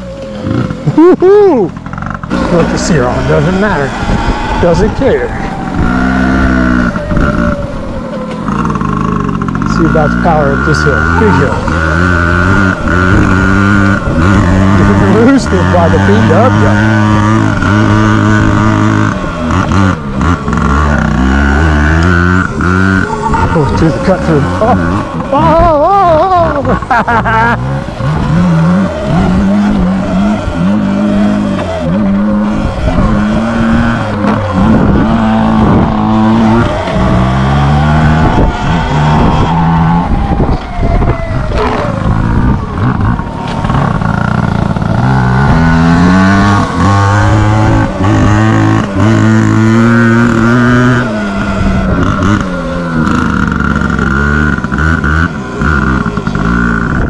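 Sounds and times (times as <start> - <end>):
loud rushing rumble: 1.4 - 57.0
electric dirt bike motor whine: 1.9 - 57.0.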